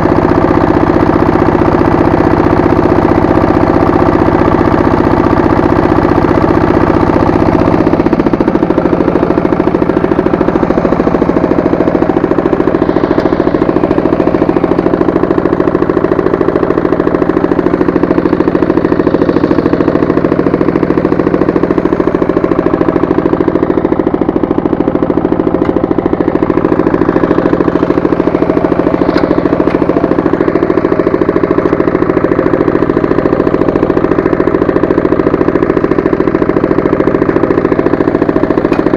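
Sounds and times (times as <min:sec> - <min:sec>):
rotary tiller working soil: 0:00.0 - 0:38.9
tractor engine running: 0:00.0 - 0:38.9.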